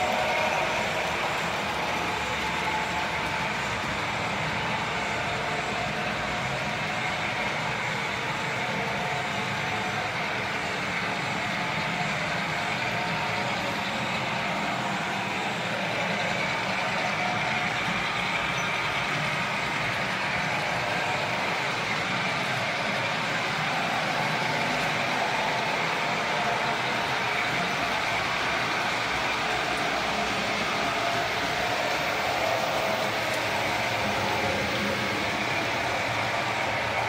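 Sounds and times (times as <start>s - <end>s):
model train motors and wheels rumbling: 0.0s - 37.0s.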